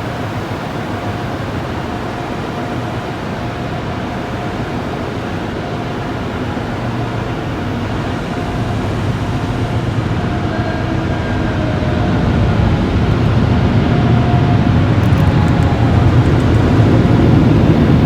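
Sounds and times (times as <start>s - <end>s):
car wash rushing and rumble: 0.0s - 18.0s.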